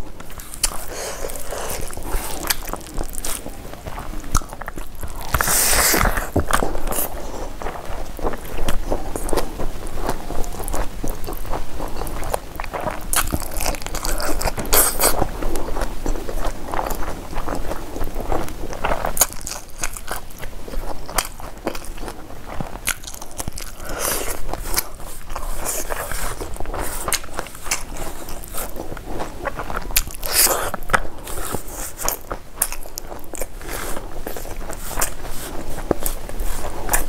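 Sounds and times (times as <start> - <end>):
person crunching fried food: 0.1 - 37.0.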